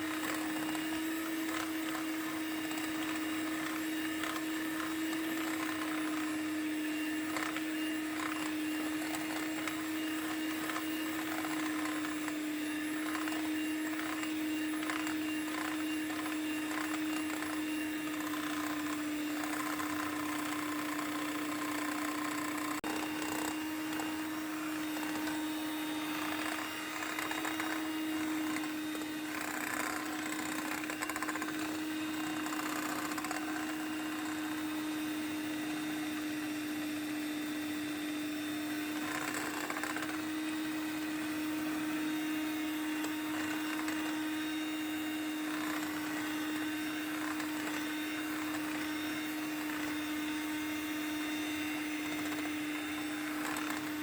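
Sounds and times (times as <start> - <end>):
electric mixer running: 0.0 - 54.0.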